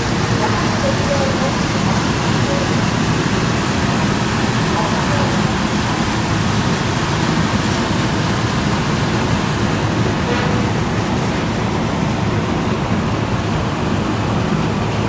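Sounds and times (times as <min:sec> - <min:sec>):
churned water rushing: 0:00.0 - 0:15.0
low ship engine rumble: 0:00.0 - 0:15.0.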